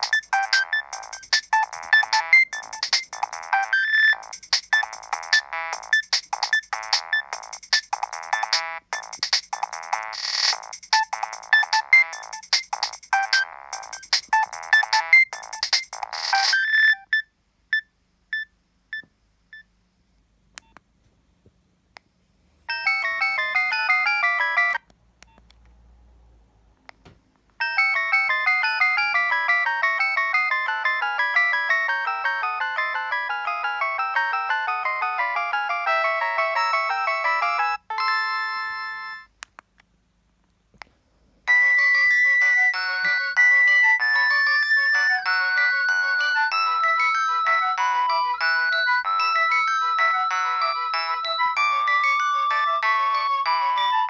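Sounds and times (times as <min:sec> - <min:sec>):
electronic ringtone melodies: 0:00.0 - 0:17.2, 0:22.7 - 0:24.9, 0:27.6 - 0:39.3, 0:41.5 - 0:54.0
mobile phone ringtone beeps: 0:00.0 - 0:17.3, 0:22.7 - 0:24.8, 0:27.6 - 0:39.3, 0:41.5 - 0:54.0.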